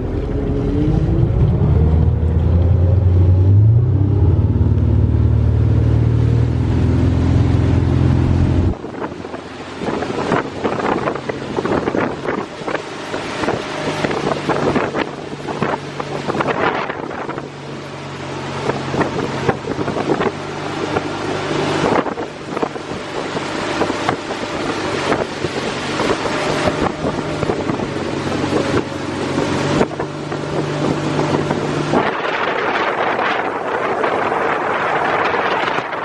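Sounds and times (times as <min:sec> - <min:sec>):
engine humming: 0:00.0 - 0:36.0
wind buffeting microphone: 0:00.0 - 0:36.0.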